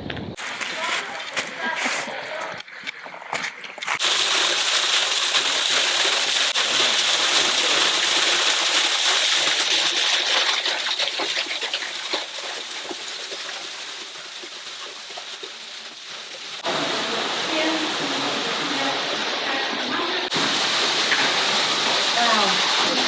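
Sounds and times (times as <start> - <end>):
waterfall pouring and splashing: 3.9 - 23.0.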